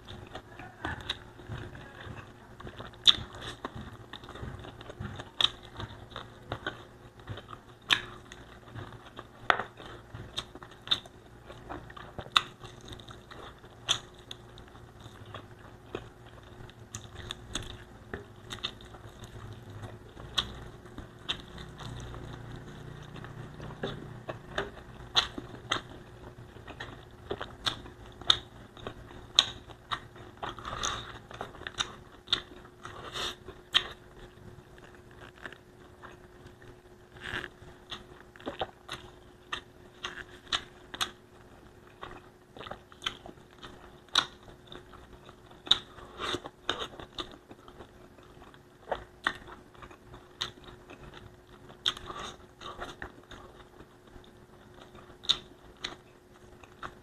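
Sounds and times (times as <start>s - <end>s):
faint steady hum: 0.0s - 57.0s
person chewing food: 0.0s - 57.0s
sharp mouth clicks and crunches: 2.6s - 26.0s, 26.6s - 41.2s, 41.9s - 57.0s.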